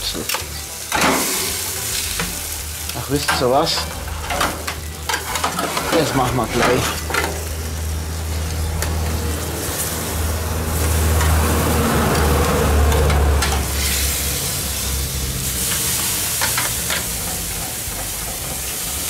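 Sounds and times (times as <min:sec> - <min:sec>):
meat sizzling on grill: 0:00.0 - 0:19.0.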